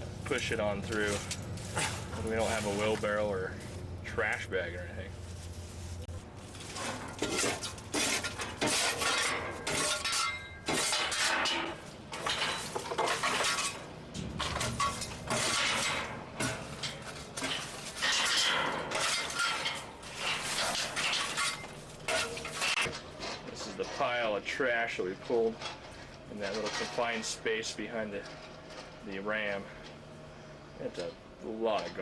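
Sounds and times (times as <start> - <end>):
trash clattering against steel: 0.1 - 5.7, 6.3 - 30.0.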